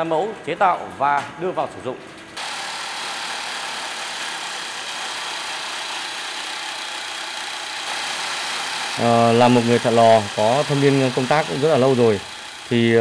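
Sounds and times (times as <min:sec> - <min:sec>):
hydraulic drill rig running: 0:02.4 - 0:13.0.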